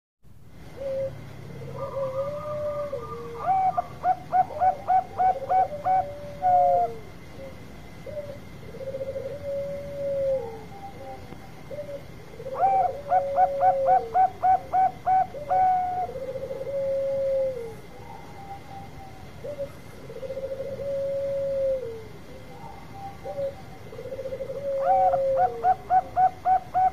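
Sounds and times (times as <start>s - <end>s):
dove cooing song: 0.6s - 26.9s.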